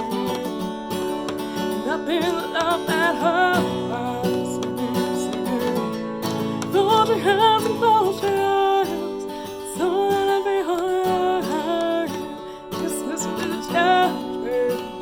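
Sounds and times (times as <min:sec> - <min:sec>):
acoustic guitar strummed: 0:00.0 - 0:15.0
person singing: 0:00.0 - 0:15.0.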